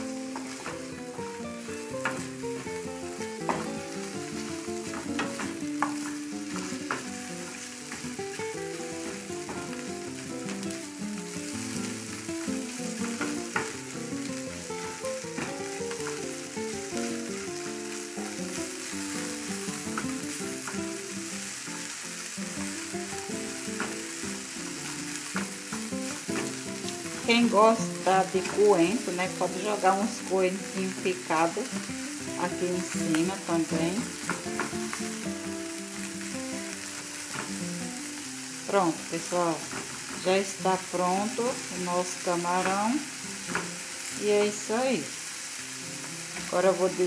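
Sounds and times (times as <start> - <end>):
shrimp and onion sizzling in pan: 0.0 - 47.0.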